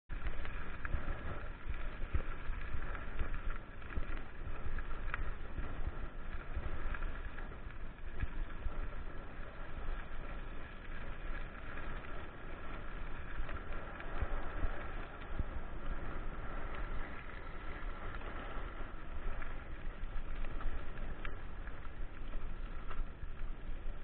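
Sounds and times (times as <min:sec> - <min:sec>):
bike tyres rumbling on gravel: 0:00.1 - 0:24.0.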